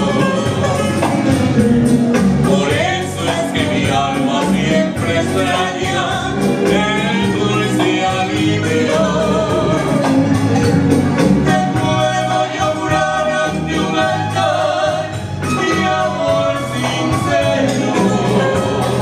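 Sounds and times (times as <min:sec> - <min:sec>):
rhythmic accompaniment: 0:00.0 - 0:19.0
man and woman singing duet: 0:02.4 - 0:10.4, 0:11.2 - 0:19.0.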